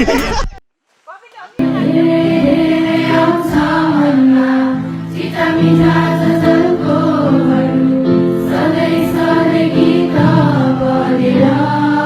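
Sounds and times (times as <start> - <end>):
choral singing music: 1.6 - 12.0.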